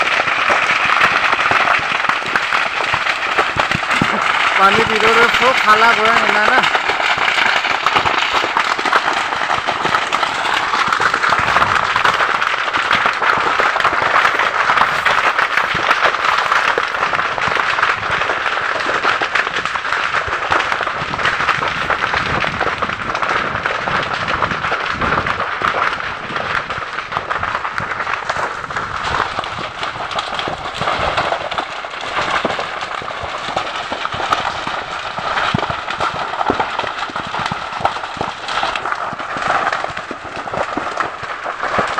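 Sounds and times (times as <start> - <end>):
brush fire crackling and popping: 0.0 - 41.9.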